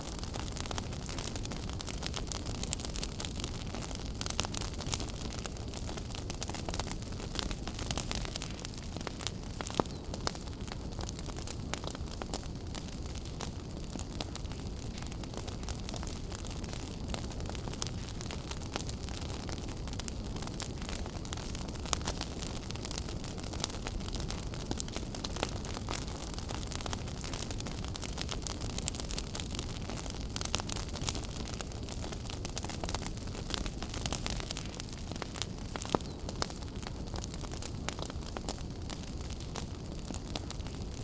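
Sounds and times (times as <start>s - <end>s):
loud fire pops: 0.0s - 41.0s
wood fire crackling: 0.0s - 41.0s.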